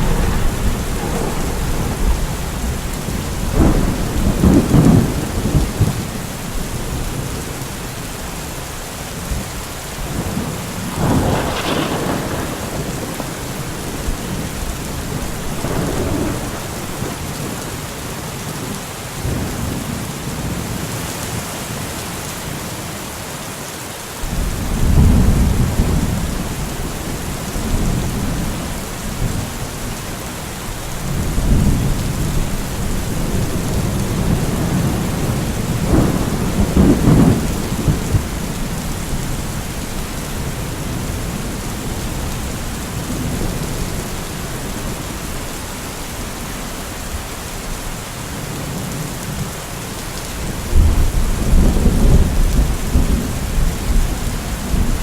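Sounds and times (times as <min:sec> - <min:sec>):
thunder rumbling: 0:00.0 - 0:08.5, 0:09.2 - 0:17.8, 0:24.2 - 0:47.1, 0:50.4 - 0:55.0
heavy rain falling: 0:00.0 - 0:55.0.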